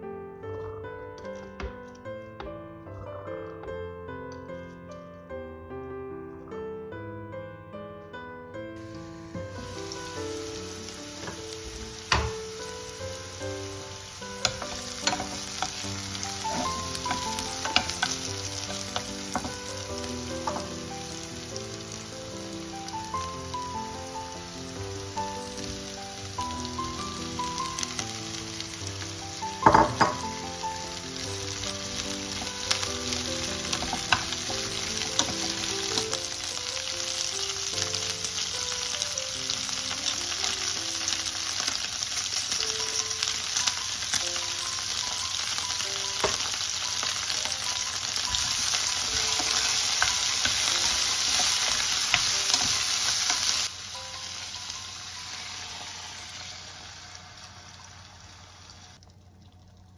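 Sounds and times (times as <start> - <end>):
faint background music: 8.7 - 56.8
vegetables sizzling in a pan: 8.8 - 59.0.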